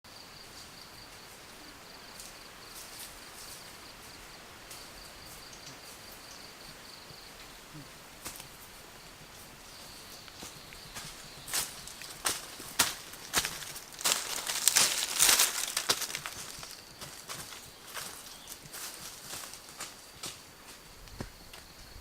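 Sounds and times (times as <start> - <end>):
insects trilling: 0.1 - 22.0.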